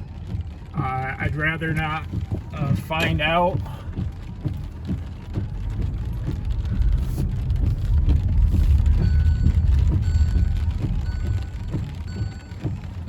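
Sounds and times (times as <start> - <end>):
loud deep rumble: 0.0 - 13.0.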